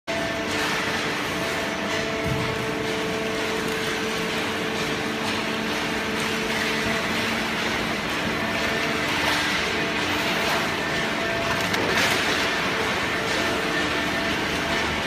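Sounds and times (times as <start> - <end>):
conveyor machinery running: 0.1 - 15.0.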